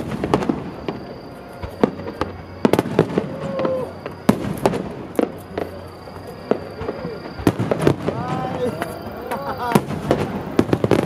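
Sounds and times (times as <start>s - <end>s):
firework bangs: 0.0s - 11.0s
firework crackle: 0.0s - 11.0s.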